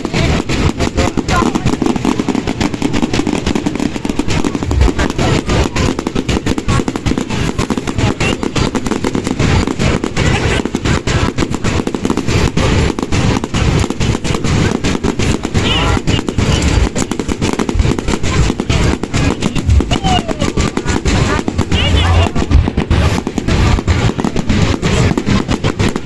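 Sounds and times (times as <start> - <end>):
fireworks cracking and banging: 0.0 - 26.0.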